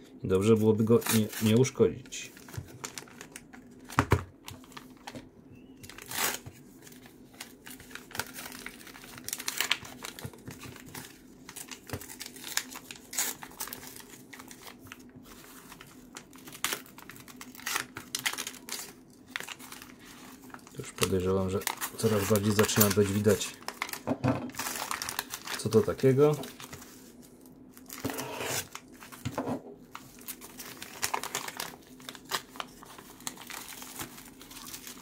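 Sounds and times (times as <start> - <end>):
packaging crinkling and rustling: 0.4 - 35.0.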